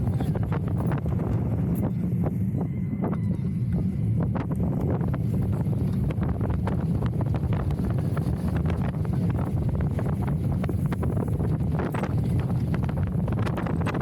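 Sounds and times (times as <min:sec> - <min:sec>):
roller coaster train rattling on track: 0:00.0 - 0:14.0
wind buffeting microphone: 0:00.0 - 0:14.0.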